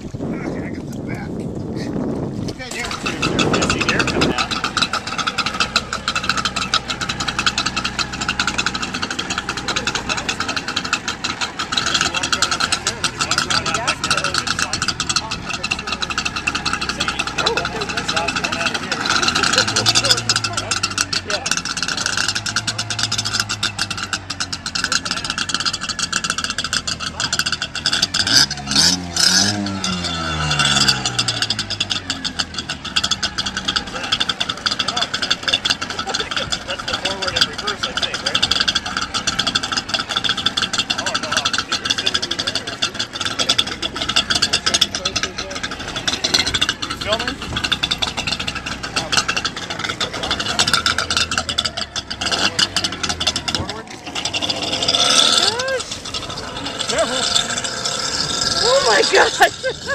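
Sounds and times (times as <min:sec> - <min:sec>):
watercraft engine idling: 0:00.0 - 0:59.9.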